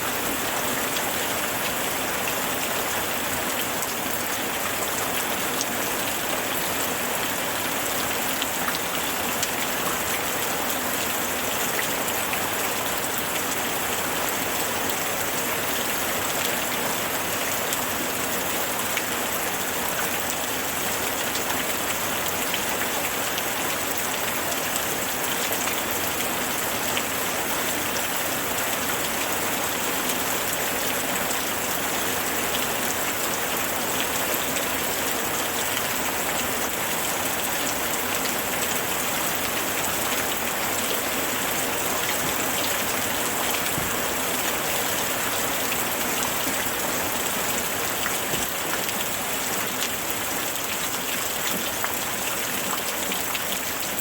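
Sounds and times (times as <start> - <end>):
rain pattering: 0.1 - 54.0.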